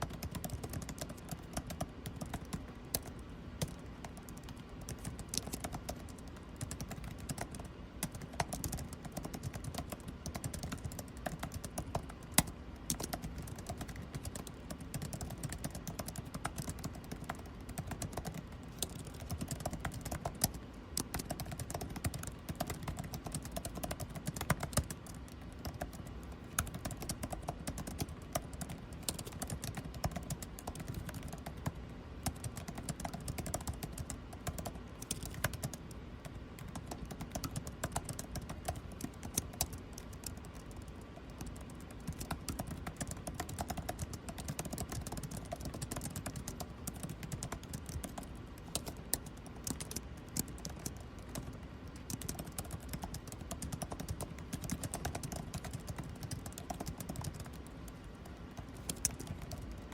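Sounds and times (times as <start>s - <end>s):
air conditioning hum: 0.0s - 59.9s
typing on computer keyboard: 0.0s - 59.9s.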